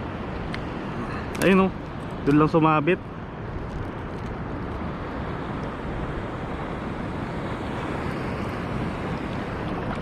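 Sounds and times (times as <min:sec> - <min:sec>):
sea surf at shore: 0:00.0 - 0:10.0
wind on microphone: 0:00.0 - 0:10.0.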